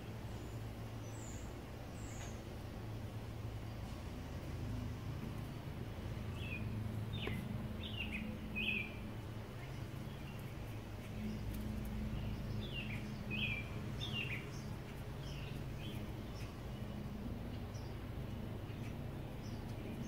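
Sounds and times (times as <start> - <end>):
songbird chirping: 0.0 - 20.0
steady low hum: 0.0 - 20.0.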